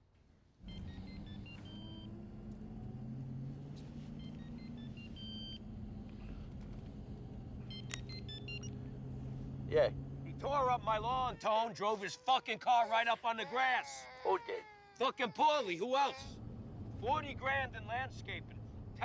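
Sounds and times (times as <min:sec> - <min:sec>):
car engine and road noise: 0:00.3 - 0:12.7, 0:14.4 - 0:19.0.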